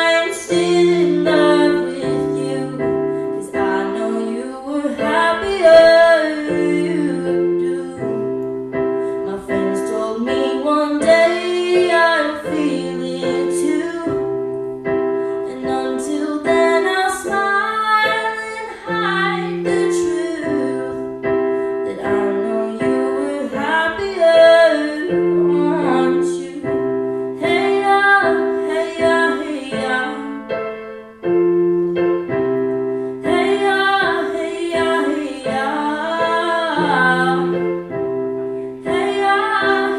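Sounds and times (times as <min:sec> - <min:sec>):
woman singing: 0:00.0 - 0:14.5, 0:15.3 - 0:30.9, 0:33.2 - 0:38.0, 0:38.6 - 0:39.9
electric keyboard chords: 0:00.0 - 0:39.9.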